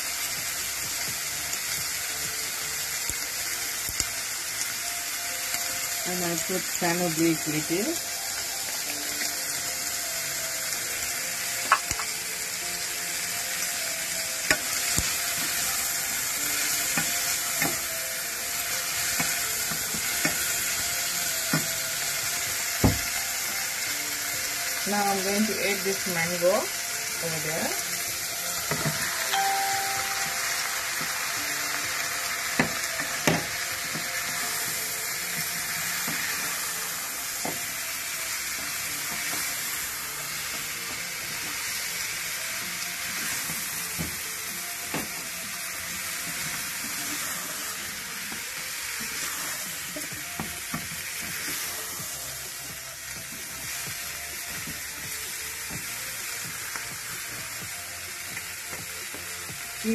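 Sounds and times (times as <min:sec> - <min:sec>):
food sizzling in a saucepan: 0:00.0 - 0:59.9.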